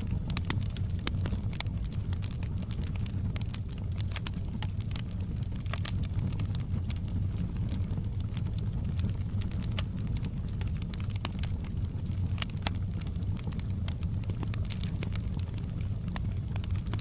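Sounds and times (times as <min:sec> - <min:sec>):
fire flames rumbling: 0:00.0 - 0:17.0
wood crackling and popping: 0:00.0 - 0:17.0.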